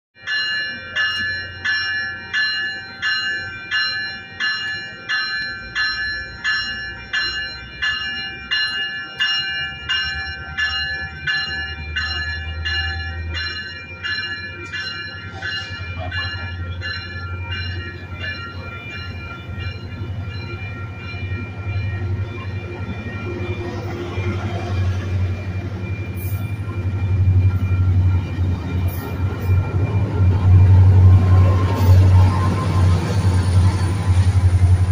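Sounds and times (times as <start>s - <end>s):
bell ringing in steady strokes: 0.2s - 34.9s
train rumbling past: 0.3s - 34.9s.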